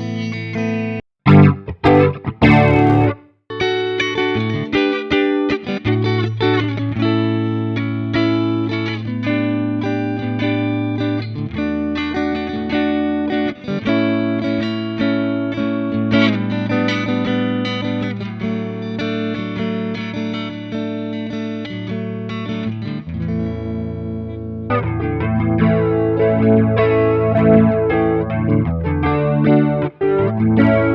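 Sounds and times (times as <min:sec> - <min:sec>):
electric guitar chords: 0:01.2 - 0:30.9.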